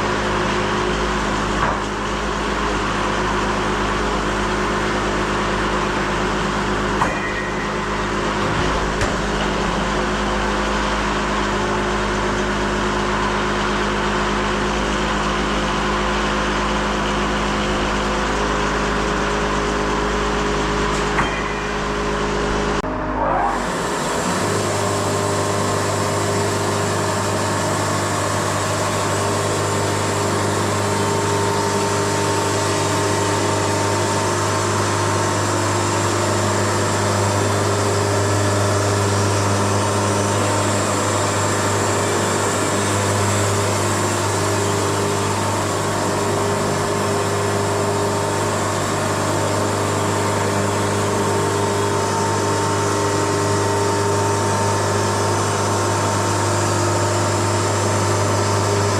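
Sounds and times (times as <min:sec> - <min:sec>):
sawmill running: 0:00.0 - 0:58.9.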